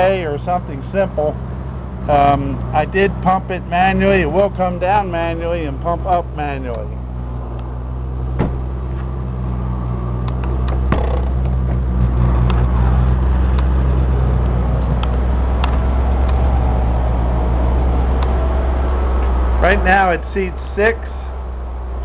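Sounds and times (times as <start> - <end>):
van engine idling: 0.0 - 22.0.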